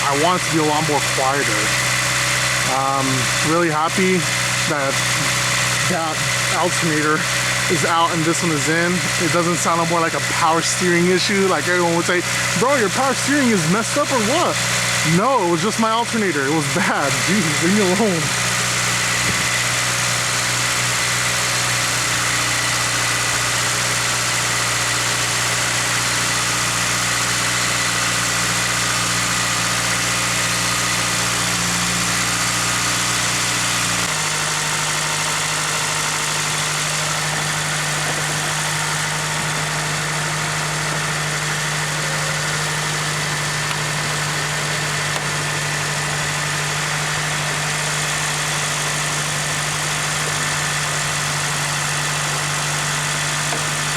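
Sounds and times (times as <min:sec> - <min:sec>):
car engine idling: 0:00.0 - 0:53.9
high belt drive whine: 0:00.0 - 0:53.9.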